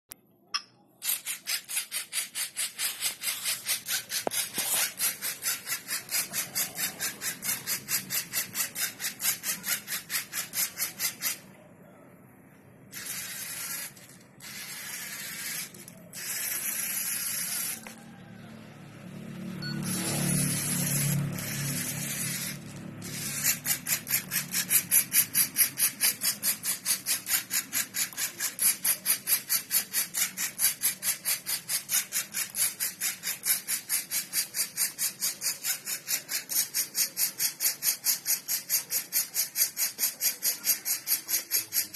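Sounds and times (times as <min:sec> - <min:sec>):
robot servo motors whining: 0:01.1 - 0:11.4, 0:12.9 - 0:18.7, 0:19.4 - 0:41.9.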